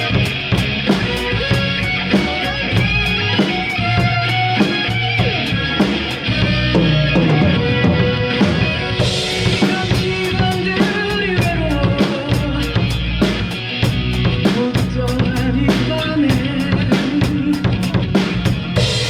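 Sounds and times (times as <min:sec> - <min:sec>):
drum kit kick and snare beat: 0:00.0 - 0:19.0
rock guitar and bass: 0:00.0 - 0:19.0.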